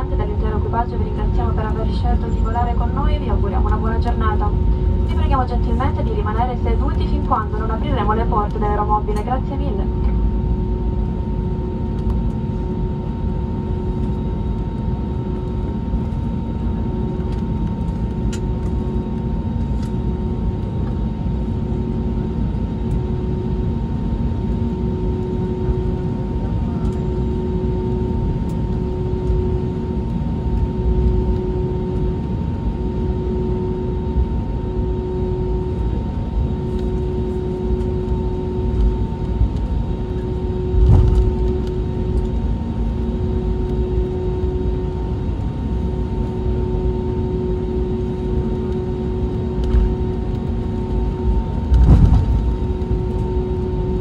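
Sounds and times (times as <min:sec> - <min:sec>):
pulsing low tone: 0:00.0 - 0:17.3, 0:22.9 - 0:54.0
aircraft cabin rumble and hum: 0:00.0 - 0:54.0.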